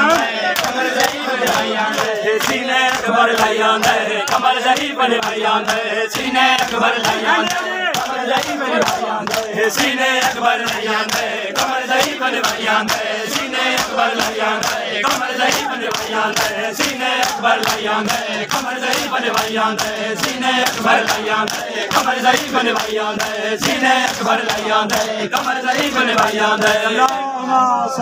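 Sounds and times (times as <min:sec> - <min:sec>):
crowd of men chanting: 0:00.0 - 0:28.0
hands slapping on chests: 0:00.1 - 0:27.2.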